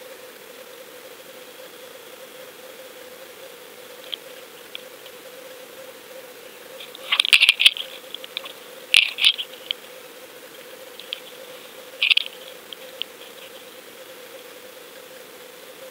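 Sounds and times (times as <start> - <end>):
steady hum and hiss: 0.0 - 15.9.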